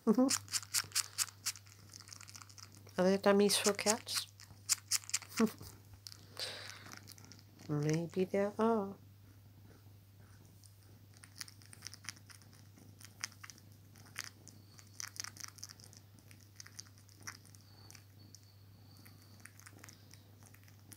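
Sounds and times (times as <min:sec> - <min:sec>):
faint steady hum: 0:00.0 - 0:20.9
kitten suckling on fabric: 0:00.2 - 0:08.1, 0:09.0 - 0:20.9.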